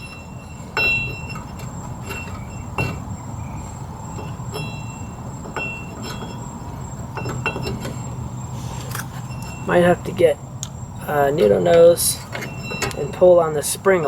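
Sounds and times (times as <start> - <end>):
metal brake parts clinking: 0.0 - 14.0
steady low hum: 0.0 - 14.0.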